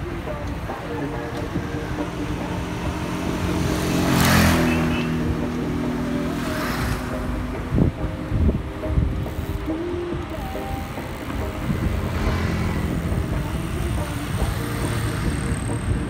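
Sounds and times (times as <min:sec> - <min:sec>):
car overtaking: 0:00.0 - 0:16.0
passing traffic: 0:00.0 - 0:16.0.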